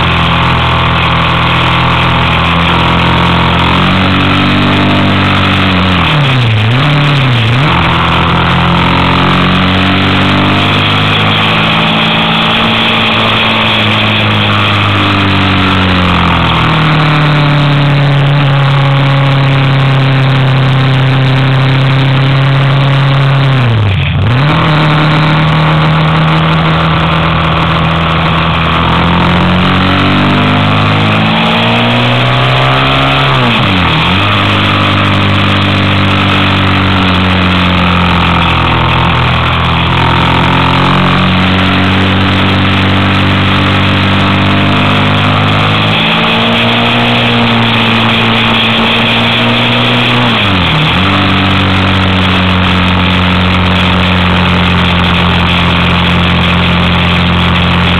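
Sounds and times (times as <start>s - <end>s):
motorcycle engine accelerating: 0.0s - 57.9s
wind and road noise: 0.0s - 57.9s.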